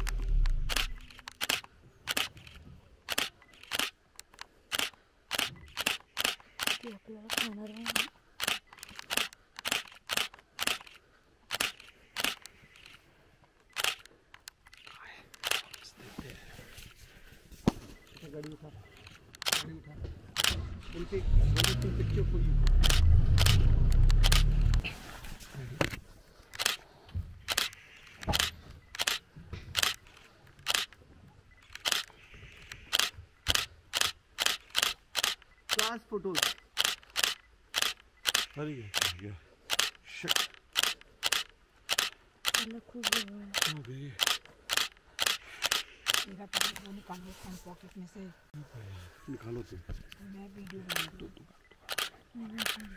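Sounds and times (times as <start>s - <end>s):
camera shutter clicks: 0.0s - 13.0s, 13.7s - 15.9s, 18.0s - 24.9s, 26.5s - 26.8s, 27.4s - 47.0s, 50.6s - 52.9s.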